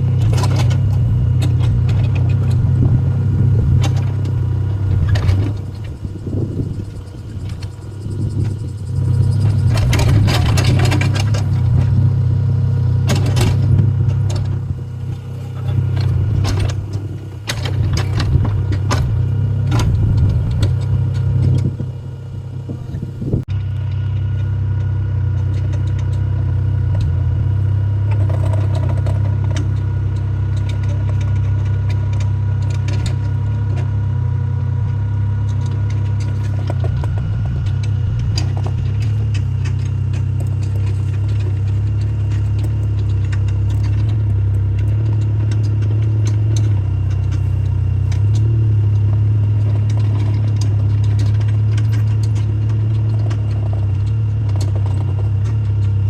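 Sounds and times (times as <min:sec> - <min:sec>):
clatter and knocks: 0:00.0 - 0:06.0, 0:07.4 - 0:21.8, 0:23.6 - 0:34.0, 0:34.9 - 0:56.0
excavator diesel engine running: 0:00.0 - 0:56.0.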